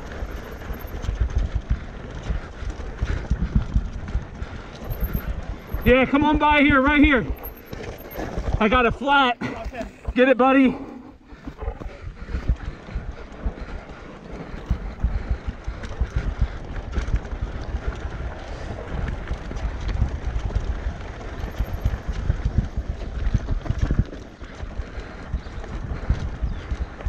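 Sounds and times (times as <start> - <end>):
bike rattling over bumps: 0.0 - 27.0
wind buffeting microphone: 0.0 - 27.0.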